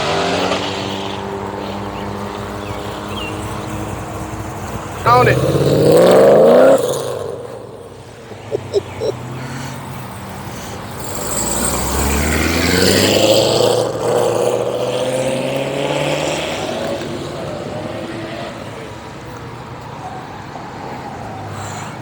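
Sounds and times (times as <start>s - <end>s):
car engine accelerating: 0.0s - 20.8s.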